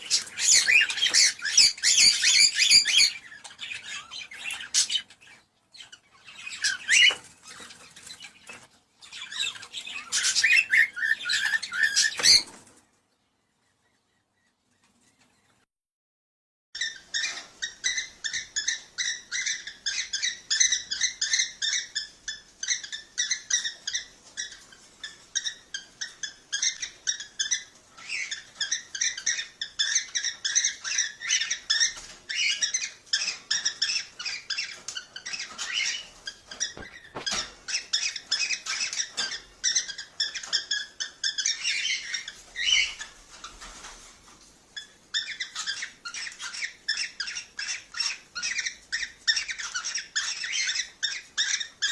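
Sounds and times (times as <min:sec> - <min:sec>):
cockatiels chirping and whistling: 0:00.0 - 0:12.6, 0:16.8 - 0:43.9, 0:44.8 - 0:51.9.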